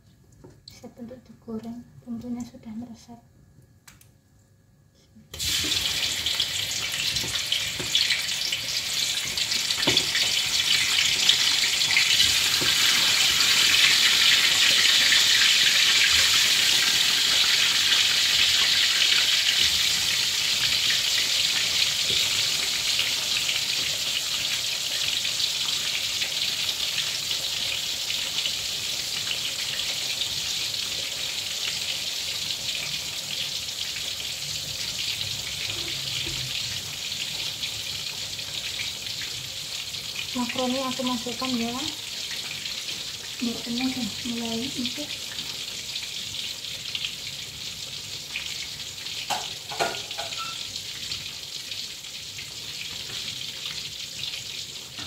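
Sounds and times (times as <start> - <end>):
food sizzling in hot oil: 5.3 - 55.0.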